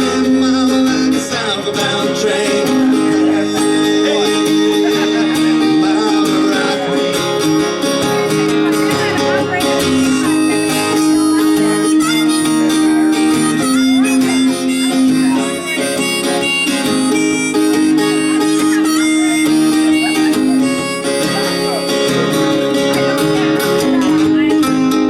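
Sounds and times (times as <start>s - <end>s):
harmonica wailing: 0.0s - 25.0s
strummed acoustic guitar: 0.0s - 25.0s.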